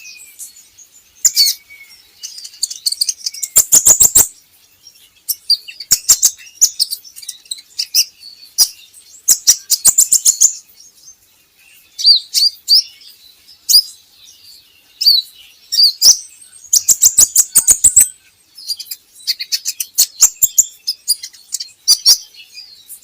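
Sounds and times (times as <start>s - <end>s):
bird twittering and chirping: 0.0s - 23.0s
sharp ticking bird notes: 0.0s - 23.0s.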